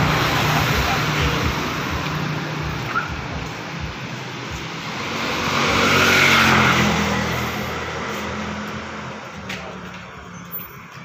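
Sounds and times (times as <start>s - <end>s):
vehicle passing by: 0.0s - 9.9s.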